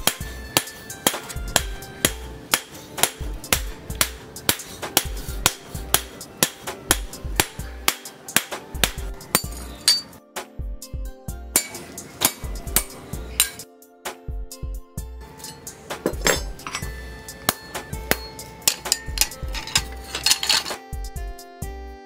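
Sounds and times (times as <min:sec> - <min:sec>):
hammer striking steel on anvil: 0:00.0 - 0:10.2, 0:11.5 - 0:13.7, 0:15.3 - 0:20.8
background music: 0:00.0 - 0:22.0.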